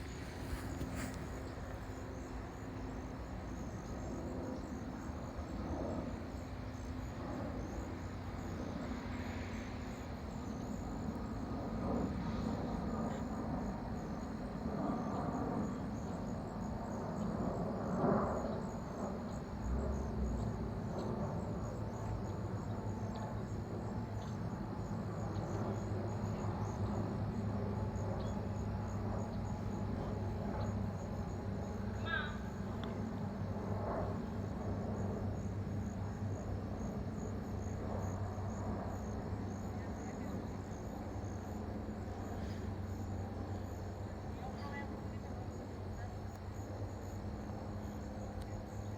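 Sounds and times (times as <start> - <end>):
crickets chirping: 0.0 - 48.9
distant aircraft engine drone: 0.0 - 48.9.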